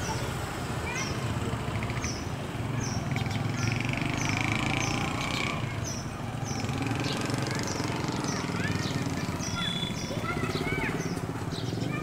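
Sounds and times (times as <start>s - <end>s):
distant traffic rumble: 0.0s - 12.0s
small bird chirping: 1.8s - 12.0s.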